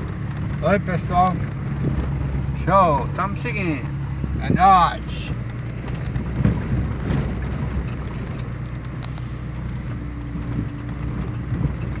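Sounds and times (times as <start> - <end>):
engine humming: 0.0 - 12.0
wind buffeting microphone: 0.0 - 12.0.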